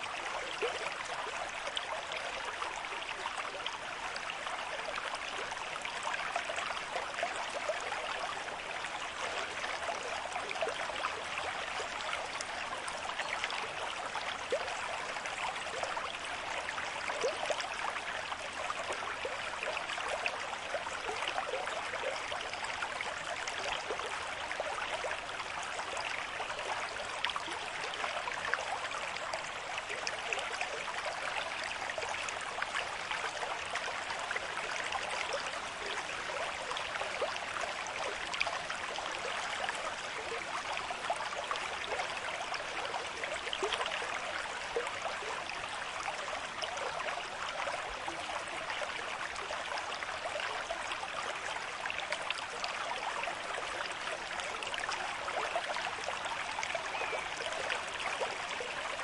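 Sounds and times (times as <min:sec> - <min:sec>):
stream flowing and bubbling: 0:00.0 - 0:59.0.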